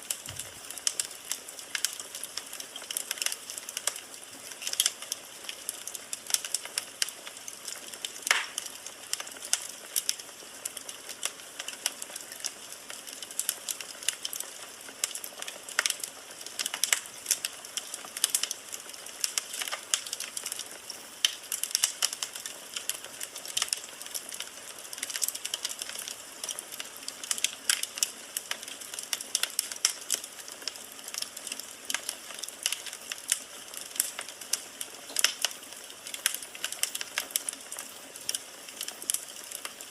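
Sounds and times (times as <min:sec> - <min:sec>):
firewood crackling and popping: 0:00.0 - 0:39.9
soft steady hiss: 0:00.0 - 0:39.9.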